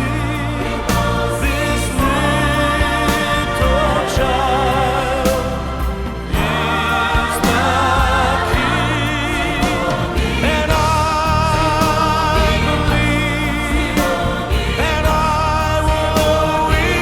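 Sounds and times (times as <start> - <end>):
bass and beat: 0.0 - 17.0
choir singing gospel song: 0.0 - 17.0.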